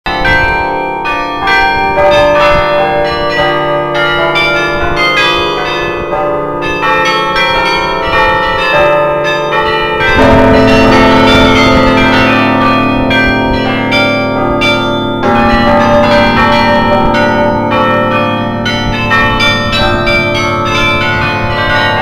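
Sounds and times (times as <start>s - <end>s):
carillon bells playing a tune: 0.1s - 22.0s
deep loud bell ringing: 0.1s - 22.0s.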